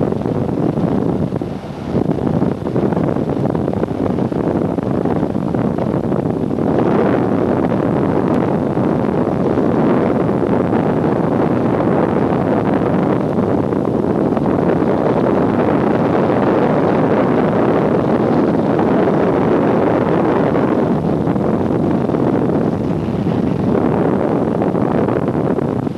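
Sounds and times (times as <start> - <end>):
airplane engines roaring: 0.0 - 25.9.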